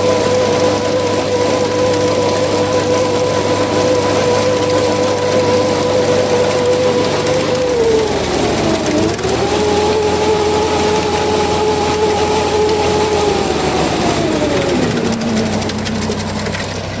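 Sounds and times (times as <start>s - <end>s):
combine harvester whining: 0.0s - 17.0s.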